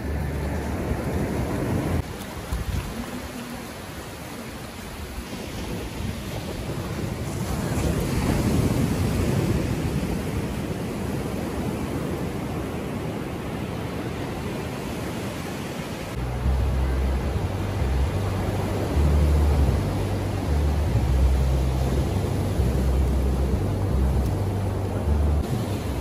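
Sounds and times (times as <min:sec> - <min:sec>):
low wind buffeting: 0:00.0 - 0:26.0
ocean surf: 0:00.0 - 0:26.0
wind on microphone: 0:00.0 - 0:26.0.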